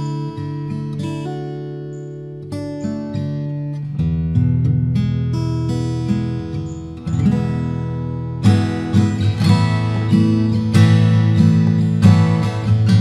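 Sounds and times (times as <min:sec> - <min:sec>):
acoustic guitar fingerpicking: 0:00.0 - 0:13.0
acoustic guitar strummed chords: 0:00.0 - 0:13.0.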